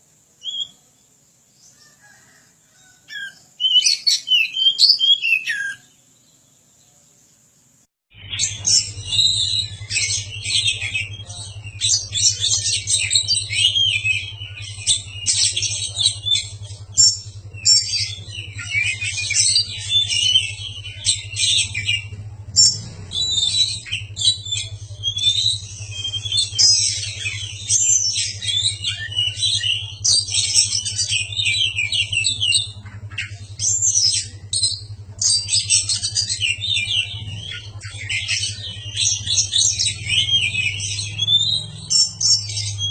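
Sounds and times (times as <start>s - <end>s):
bird singing loudly: 0.4s - 0.9s, 1.6s - 6.5s, 8.1s - 42.9s
steady low hum: 5.8s - 42.9s.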